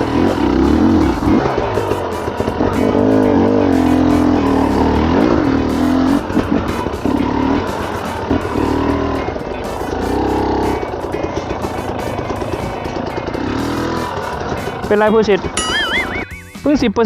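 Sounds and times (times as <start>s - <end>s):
dirt bike engine revving: 0.0s - 16.8s.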